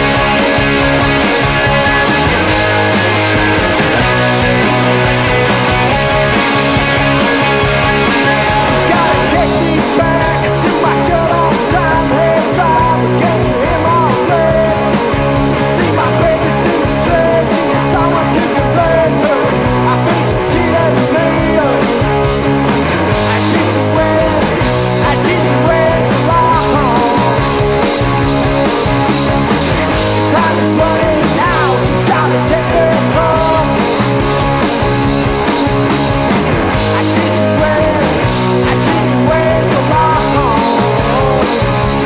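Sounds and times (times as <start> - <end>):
punk rock band playing: 0.0 - 42.0.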